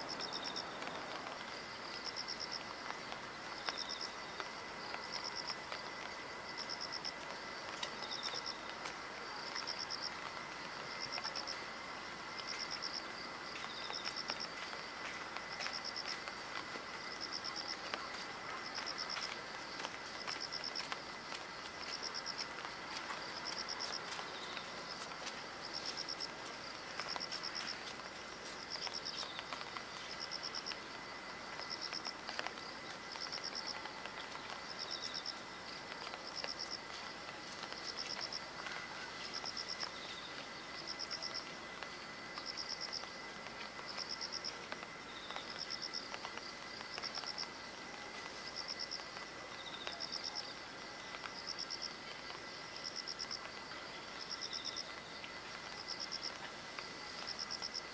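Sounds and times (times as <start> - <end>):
faint outdoor background: 0.0 - 57.9.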